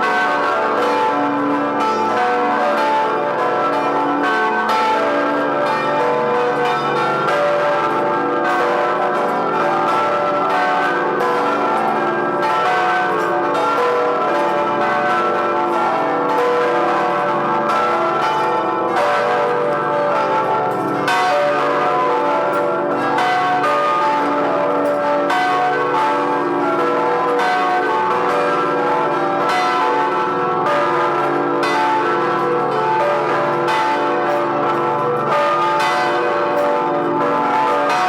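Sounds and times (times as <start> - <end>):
church bells pealing: 0.0 - 38.0.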